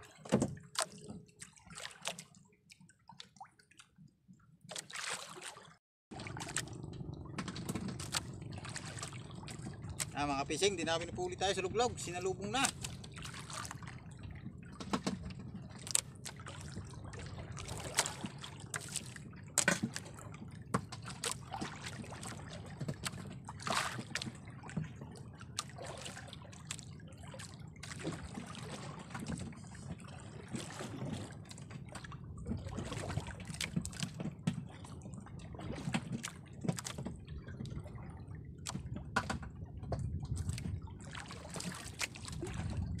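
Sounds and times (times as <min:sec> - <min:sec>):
small splashes: 0:00.0 - 0:04.1, 0:04.7 - 0:11.0, 0:12.0 - 0:43.0
water lapping against boat hull: 0:00.0 - 0:43.0.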